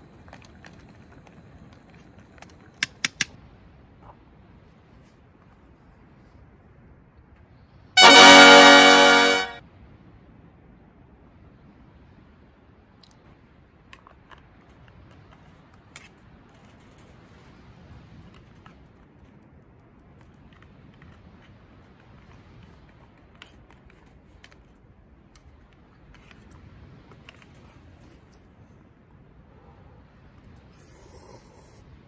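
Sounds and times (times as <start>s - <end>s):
faint low background noise: 0.0s - 32.0s.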